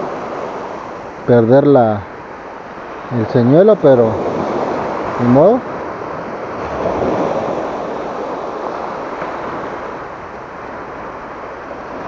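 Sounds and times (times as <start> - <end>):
waves breaking on rocky shore: 0.0 - 12.0.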